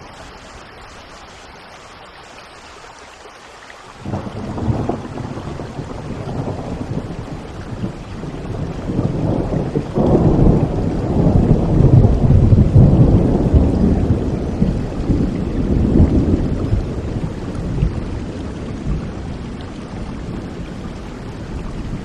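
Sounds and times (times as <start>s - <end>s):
steady rain: 0.0s - 22.0s
rolling thunder: 4.0s - 22.0s.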